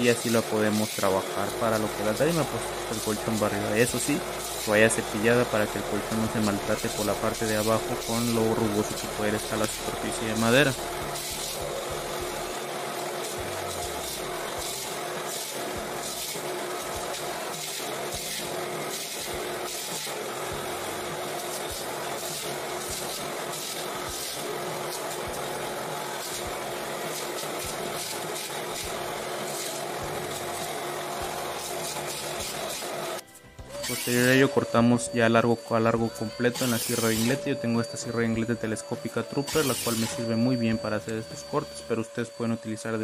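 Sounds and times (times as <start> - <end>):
electric wood jointer planing: 0.0 - 34.8, 36.0 - 42.4.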